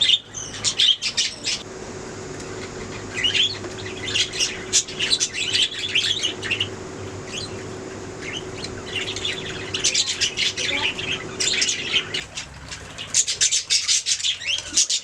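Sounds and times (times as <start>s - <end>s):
budgerigars chirping: 0.0s - 1.6s, 2.4s - 15.0s.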